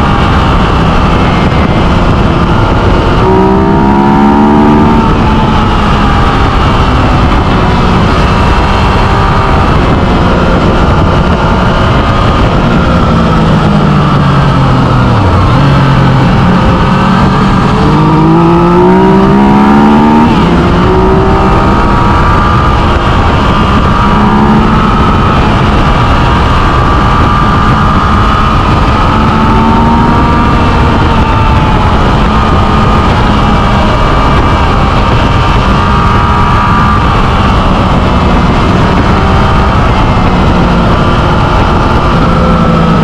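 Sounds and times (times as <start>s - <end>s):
motorcycle engine accelerating: 0.0s - 43.0s
wind and road rush: 0.0s - 43.0s.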